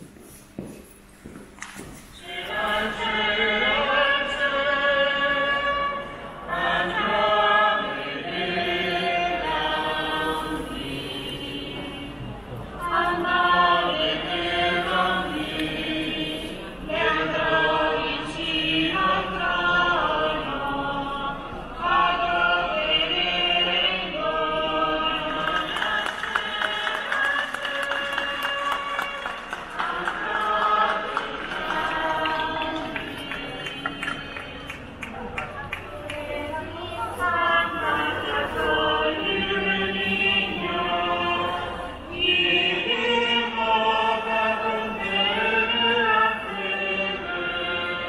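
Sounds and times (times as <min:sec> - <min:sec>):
choir singing a hymn: 0:02.2 - 0:35.0, 0:36.0 - 0:48.0.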